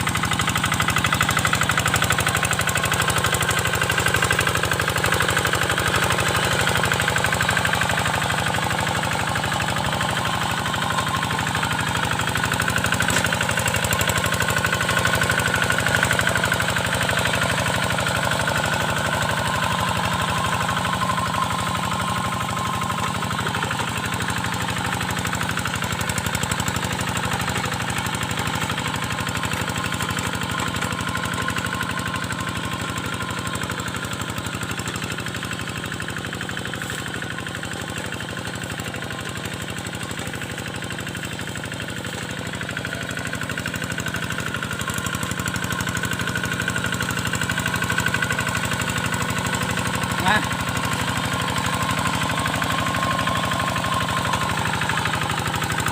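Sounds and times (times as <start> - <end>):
diesel engine knocking: 0.0 - 55.9.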